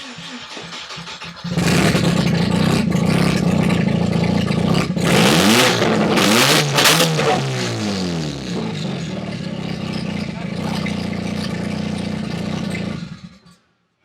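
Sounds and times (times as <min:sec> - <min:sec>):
rotary engine starting and revving: 0:00.0 - 0:13.6.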